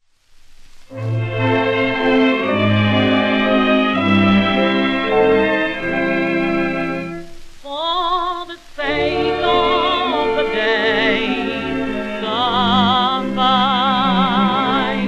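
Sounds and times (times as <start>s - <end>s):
old orchestra record playing: 0.8s - 15.0s.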